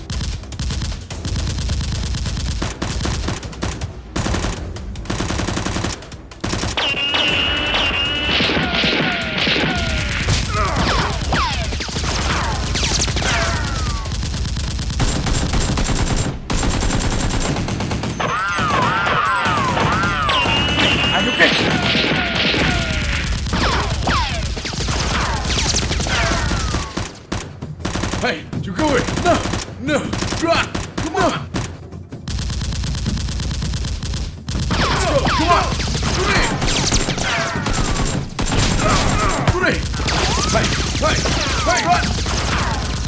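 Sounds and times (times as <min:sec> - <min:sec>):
automatic gunfire: 0:00.0 - 0:43.0.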